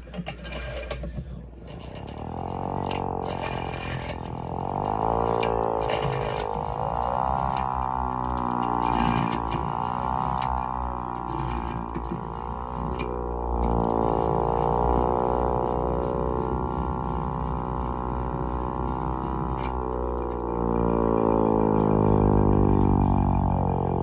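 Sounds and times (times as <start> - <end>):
hand-crank siren wailing: 0.2 - 24.0.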